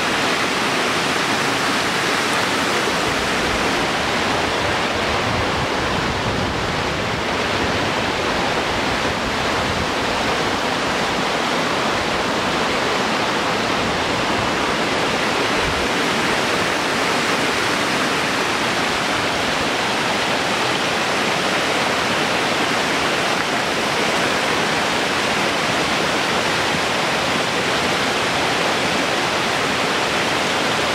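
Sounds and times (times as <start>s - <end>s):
creek water rushing over rocks: 0.0s - 30.9s.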